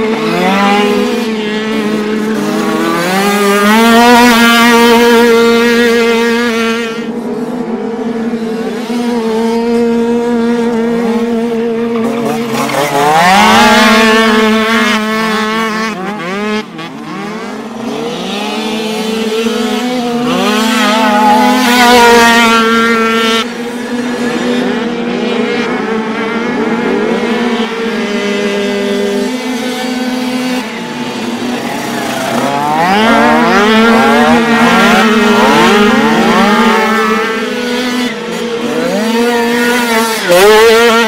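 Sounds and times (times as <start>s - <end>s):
dirt bikes racing past: 0.0s - 41.0s
distant bike engines: 0.0s - 41.0s.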